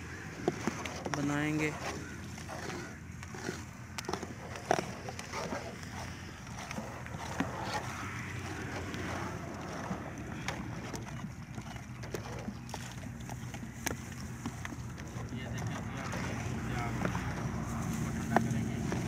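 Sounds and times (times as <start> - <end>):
low engine hum: 0.0 - 19.0
thick syrup being stirred: 0.0 - 19.0
wooden scraper knocking trough: 0.3 - 17.5.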